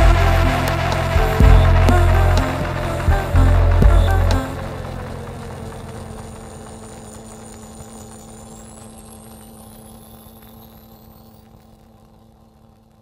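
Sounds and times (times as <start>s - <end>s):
held drone tones: 0.0s - 11.7s
high tone gliding upward: 0.0s - 11.8s
noisy hiss: 0.0s - 13.0s.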